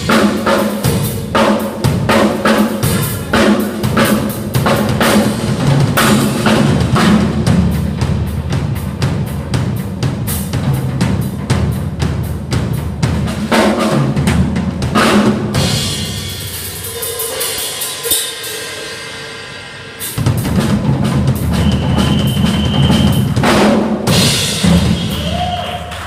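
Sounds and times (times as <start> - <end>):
drum kit playing: 0.0 - 26.0.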